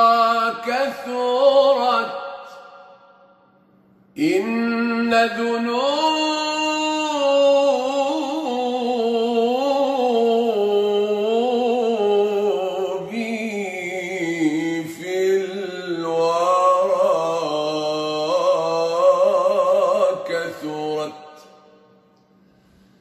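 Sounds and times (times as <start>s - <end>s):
man singing unaccompanied: 0.0s - 2.6s, 4.2s - 21.7s.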